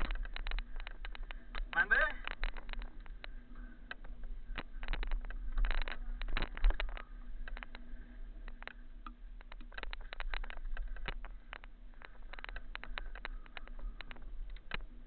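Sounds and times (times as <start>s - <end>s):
bike rattling on rocky trail: 0.0s - 15.0s.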